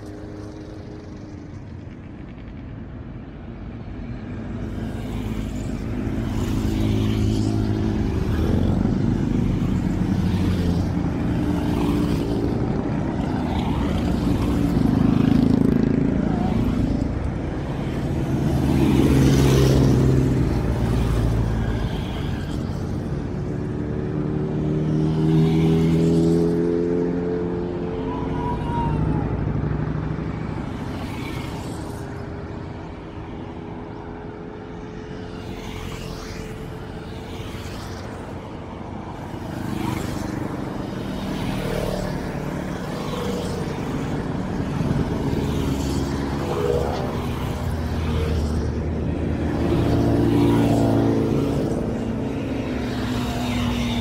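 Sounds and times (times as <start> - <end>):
cars passing: 0.0 - 54.0
motorcycles passing: 0.0 - 54.0.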